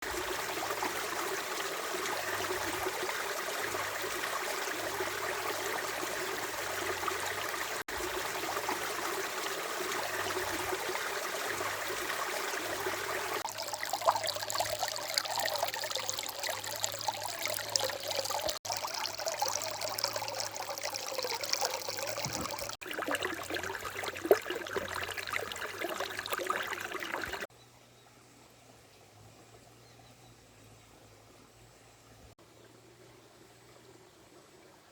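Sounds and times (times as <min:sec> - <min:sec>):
stream trickling and splashing: 0:00.0 - 0:27.5, 0:28.2 - 0:34.9.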